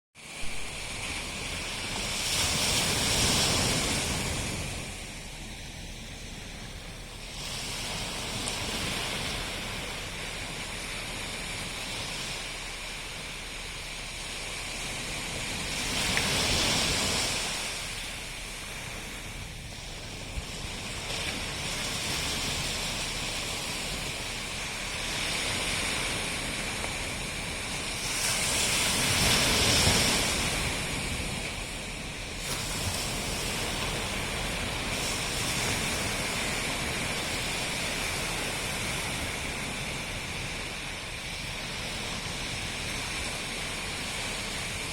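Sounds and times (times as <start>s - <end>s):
ocean waves breaking on shore: 0.2s - 44.9s.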